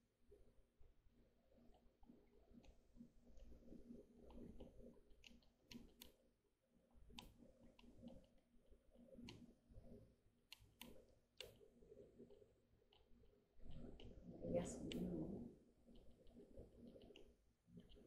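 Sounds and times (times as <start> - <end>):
faint low room hum: 0.0 - 18.0.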